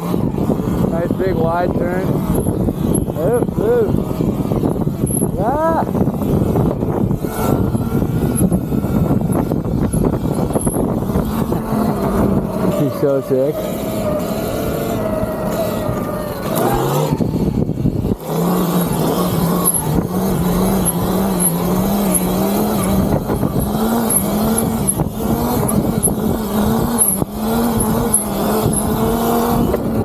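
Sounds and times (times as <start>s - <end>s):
electric motorbike motor whining: 0.0s - 30.0s
wind rumbling on microphone: 0.0s - 30.0s.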